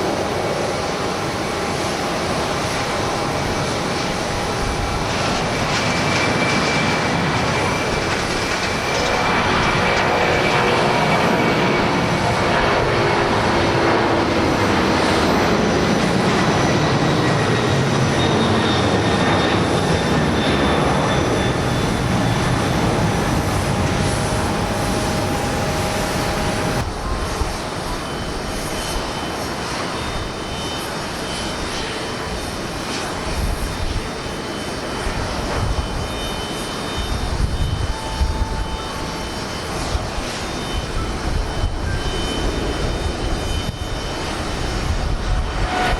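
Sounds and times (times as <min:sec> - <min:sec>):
jet engines at takeoff: 0:00.0 - 0:45.9
wind buffeting microphone: 0:00.0 - 0:45.9.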